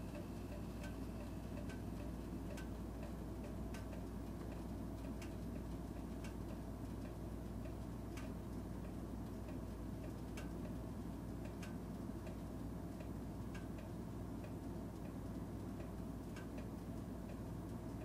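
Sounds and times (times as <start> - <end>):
fan heater humming: 0.0 - 18.0
heater ticking: 0.0 - 18.0.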